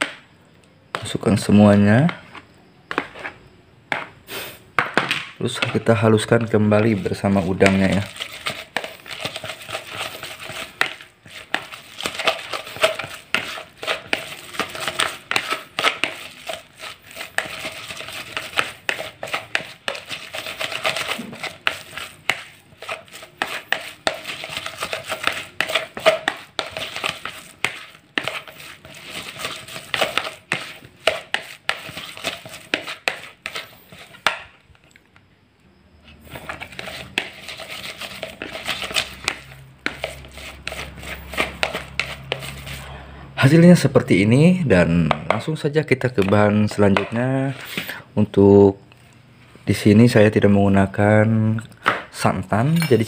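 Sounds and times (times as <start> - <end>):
scraping and squishing in a basin: 0.0 - 35.3, 35.9 - 53.0.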